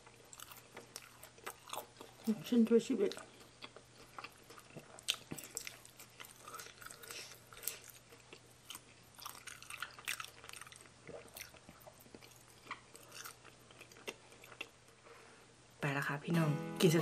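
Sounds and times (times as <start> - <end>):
person chewing food: 0.0 - 15.1.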